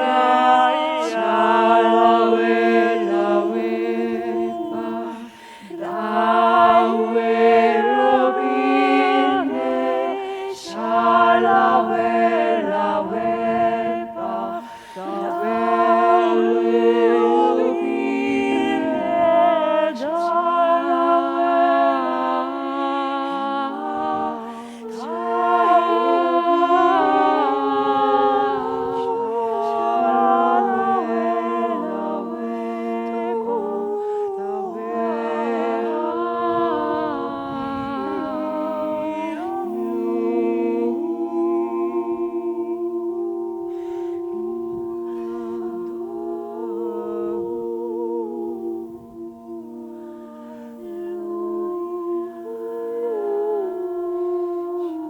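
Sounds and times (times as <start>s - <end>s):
a cappella group singing harmonies: 0.0s - 55.0s
low sustained vocal drone: 0.0s - 55.0s.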